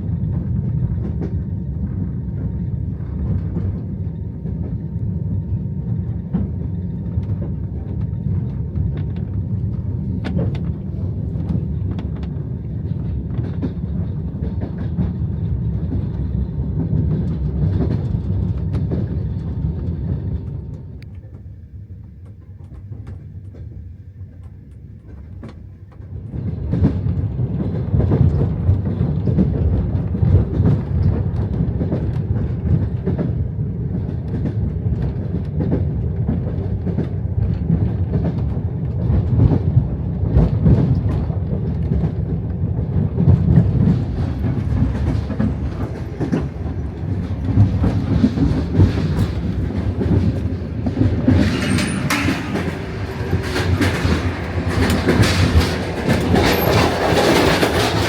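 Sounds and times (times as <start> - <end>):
train rumbling on rails: 0.0 - 58.0
train wheel clatter: 0.0 - 58.0.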